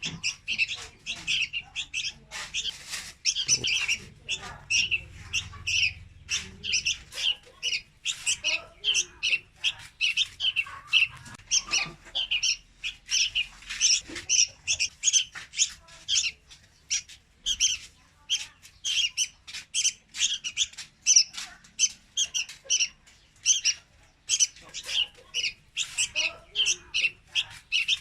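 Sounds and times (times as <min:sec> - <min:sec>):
bird making harsh chirps: 0:00.0 - 0:28.0.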